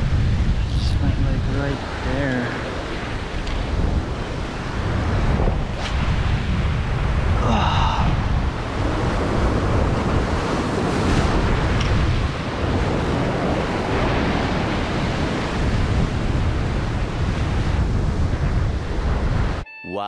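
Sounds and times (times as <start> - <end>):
wind buffeting microphone: 0.0 - 19.6
surf breaking on rocks: 1.7 - 19.1.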